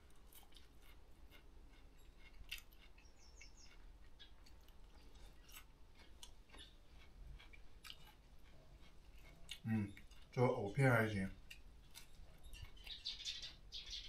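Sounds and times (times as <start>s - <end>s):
quiet chewing: 0.0s - 14.0s.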